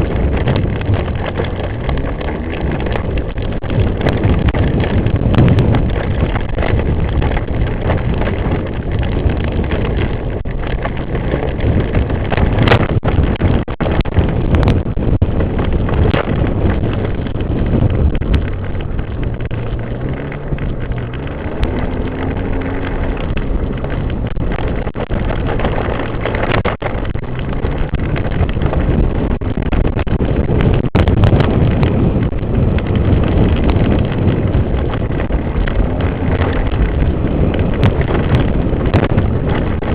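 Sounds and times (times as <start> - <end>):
atv engine revving: 0.0 - 39.9
wind noise on microphone: 0.0 - 39.9.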